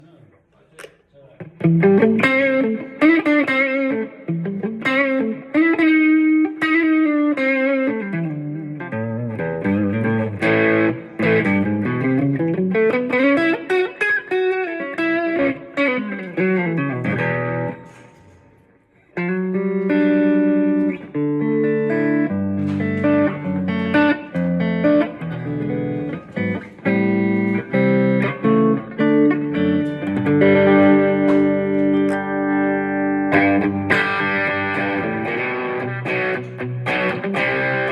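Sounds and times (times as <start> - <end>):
guitar playing runs and chords: 1.4 - 37.9.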